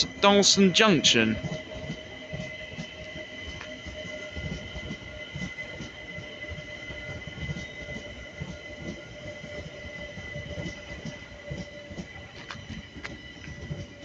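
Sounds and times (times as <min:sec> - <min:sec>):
electric train whine and rumble: 0:00.0 - 0:14.0.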